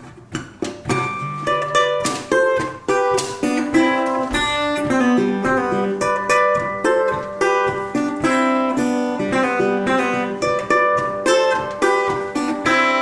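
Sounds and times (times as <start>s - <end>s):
resonator guitar picking and strumming: 0.0s - 13.0s.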